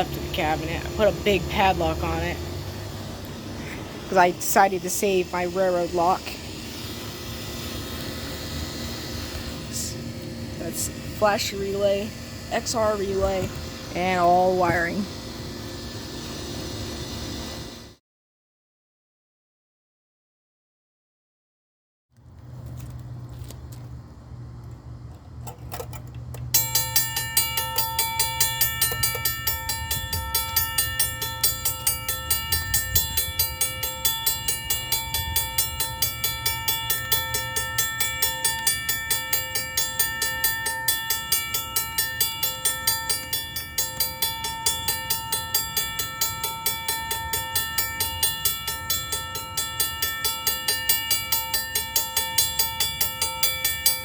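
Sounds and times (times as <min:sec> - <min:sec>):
railroad crossing bell ringing: 0:00.0 - 0:17.7, 0:26.5 - 0:54.0.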